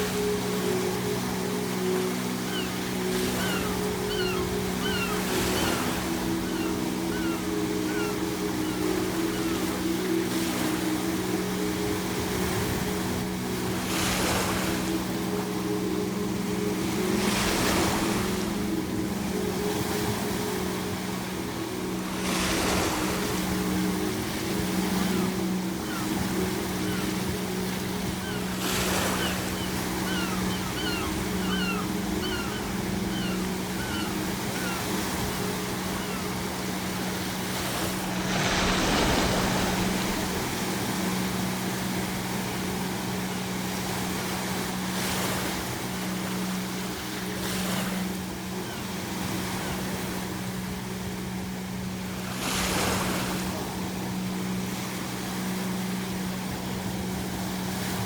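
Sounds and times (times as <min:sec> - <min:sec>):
seagulls calling: 0:00.0 - 0:12.6, 0:13.9 - 0:50.3
ocean waves breaking on shore: 0:00.0 - 0:58.0.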